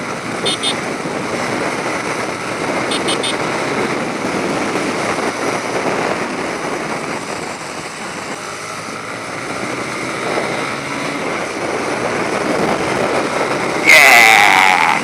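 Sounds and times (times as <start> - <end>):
motorcycle engine running at speed: 0.0 - 15.0
wind noise: 0.0 - 15.0.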